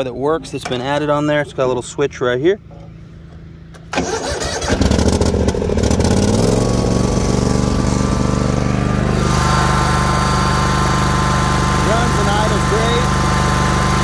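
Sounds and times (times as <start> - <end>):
mower engine idling: 2.6 - 14.0.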